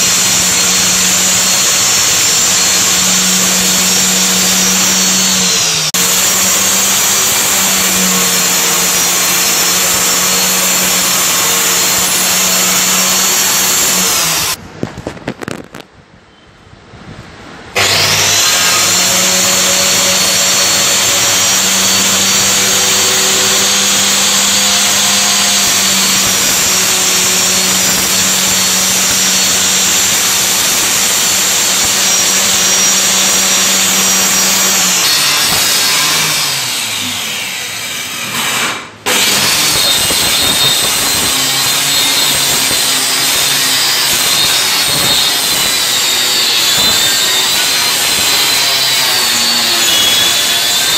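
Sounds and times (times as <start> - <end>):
circular saw cutting plywood: 0.0 - 14.6, 17.8 - 50.9.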